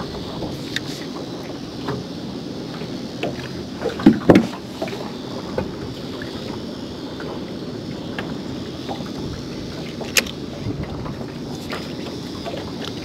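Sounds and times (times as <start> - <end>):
water noise around boat: 0.0 - 13.0
wind: 0.0 - 13.0.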